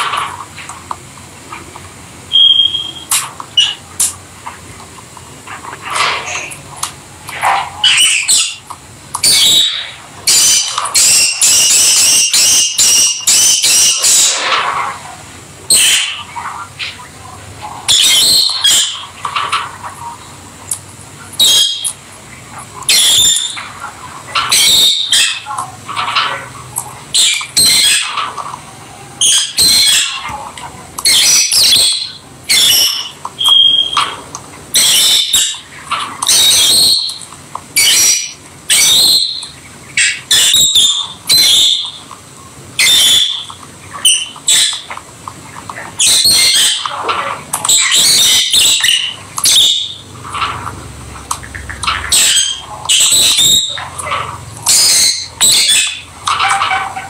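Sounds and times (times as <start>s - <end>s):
lovebirds chirping and squawking: 2.3s - 57.0s.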